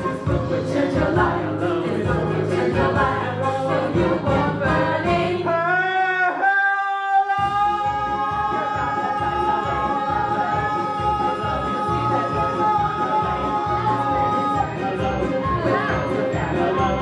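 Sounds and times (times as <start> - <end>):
musical accompaniment: 0.0 - 6.0, 7.4 - 17.0
group singing show tune: 0.0 - 17.0.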